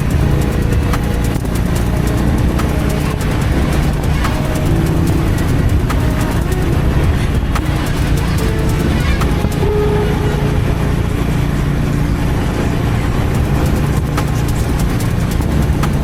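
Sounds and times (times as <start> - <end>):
motorcycle engine and exhaust: 0.0 - 16.0
road noise: 0.0 - 16.0
wind: 0.0 - 16.0.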